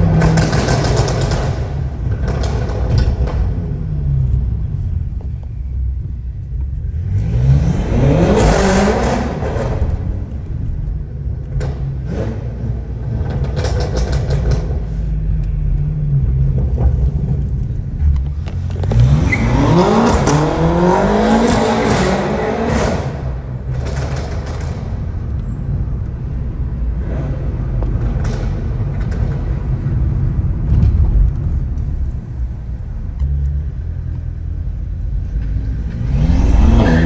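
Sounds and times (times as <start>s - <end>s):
car engine accelerating hard: 0.0s - 5.3s, 6.5s - 37.0s
low engine rumble: 0.0s - 37.0s.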